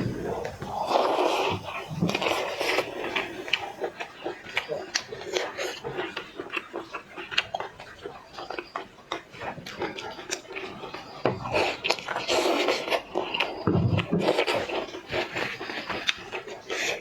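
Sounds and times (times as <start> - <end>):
wet chewing with clicks: 0.0 - 17.0.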